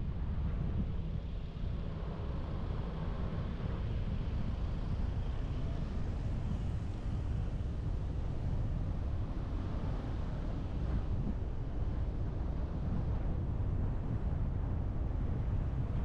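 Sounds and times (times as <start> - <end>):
car road and wind rumble: 0.0 - 16.0.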